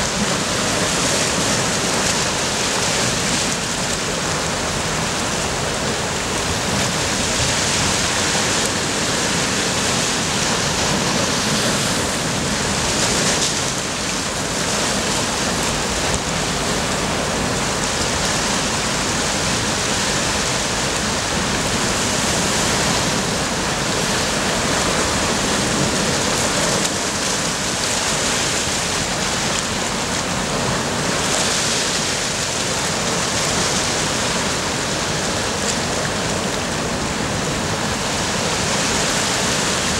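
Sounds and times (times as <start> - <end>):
surf on rocky shore: 0.0 - 39.9.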